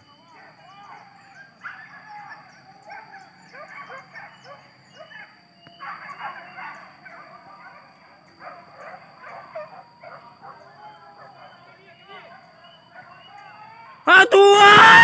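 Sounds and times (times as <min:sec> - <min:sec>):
dogs barking and yelping: 0:00.3 - 0:14.0.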